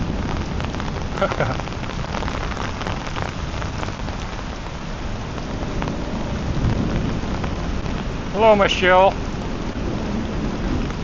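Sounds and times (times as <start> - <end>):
heavy rain pattering: 0.0 - 11.0
raindrops striking an umbrella: 0.0 - 11.0.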